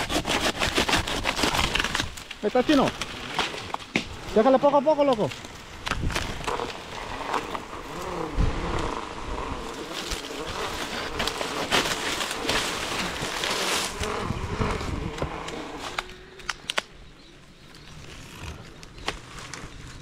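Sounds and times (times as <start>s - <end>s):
dry palm fronds crackling: 0.0s - 20.0s.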